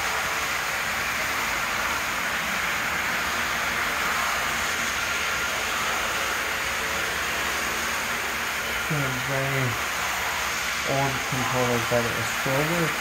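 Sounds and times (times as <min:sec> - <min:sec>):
model trains whirring on track: 0:00.0 - 0:13.0.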